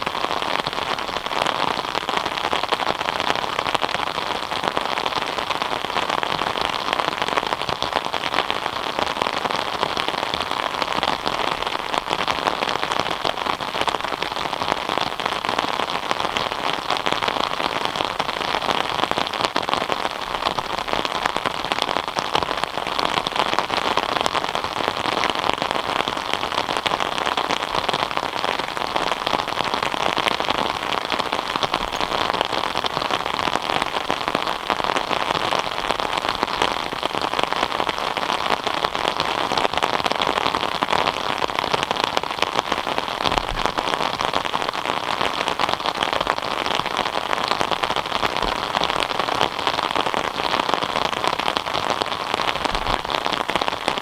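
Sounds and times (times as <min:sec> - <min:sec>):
rain pattering on a surface: 0:00.0 - 0:54.0.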